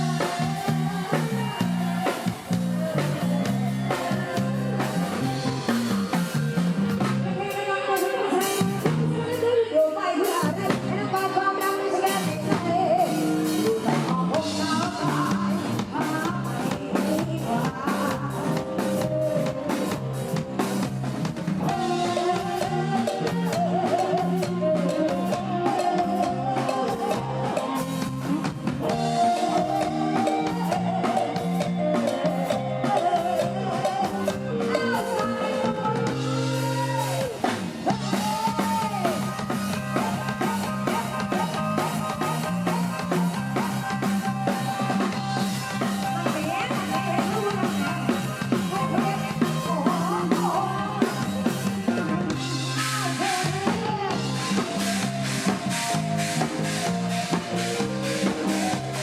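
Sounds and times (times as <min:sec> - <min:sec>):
drum kit beat: 0:00.0 - 0:59.0
live pop band music: 0:00.0 - 0:59.0.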